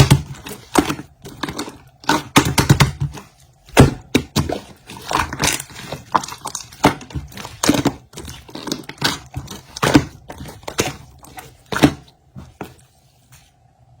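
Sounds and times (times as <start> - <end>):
slime squelching: 0.0 - 13.5.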